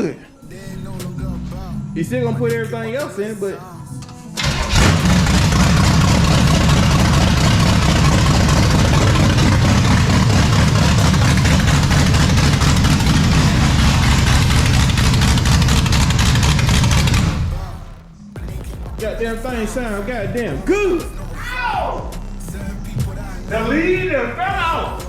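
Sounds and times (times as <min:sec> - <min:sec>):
car engine idling: 0:03.9 - 0:18.2, 0:19.1 - 0:25.0.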